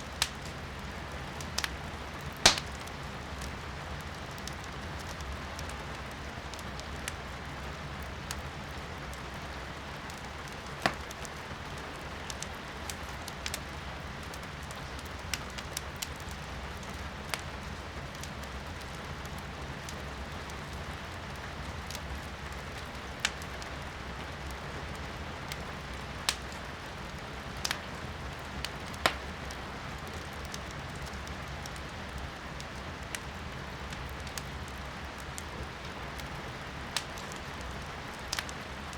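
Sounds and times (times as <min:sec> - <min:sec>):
firewood crackling and popping: 0:00.0 - 0:38.9
rain pattering: 0:00.0 - 0:38.9.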